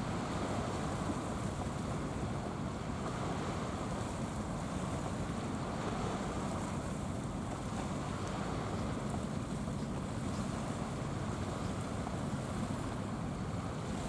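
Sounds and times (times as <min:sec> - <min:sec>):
sea waves: 0:00.0 - 0:14.0
wind: 0:00.0 - 0:14.0.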